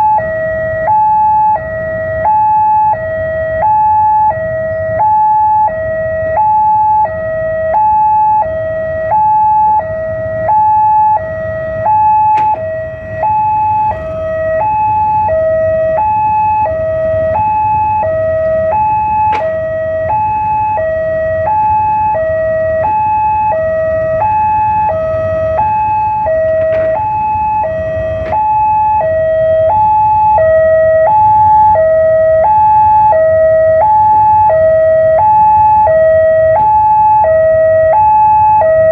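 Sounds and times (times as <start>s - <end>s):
low rumble of road traffic: 0.0s - 38.9s
two-tone crossing alarm: 0.0s - 38.9s.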